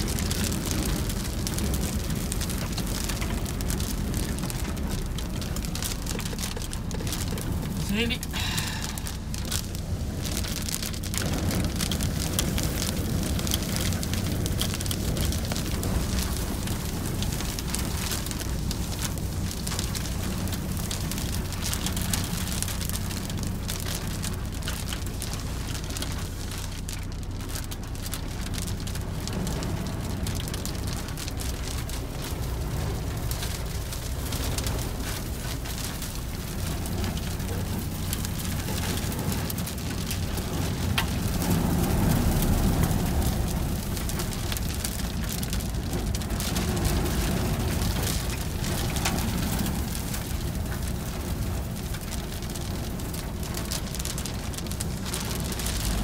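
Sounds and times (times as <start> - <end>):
grit pattering on car: 0.0 - 56.0
low rumble of wind: 0.0 - 56.0.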